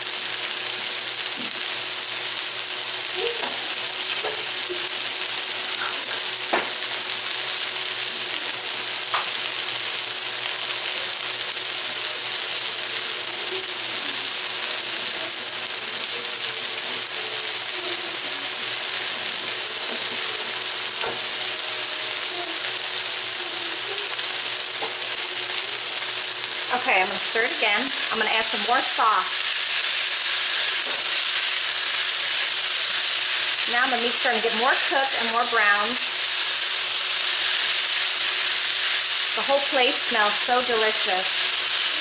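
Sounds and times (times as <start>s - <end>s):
beef sizzling in a wok: 0.0s - 42.0s.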